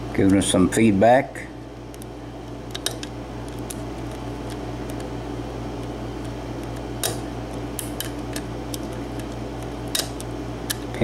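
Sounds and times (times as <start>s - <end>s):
air conditioner running: 0.0s - 11.0s.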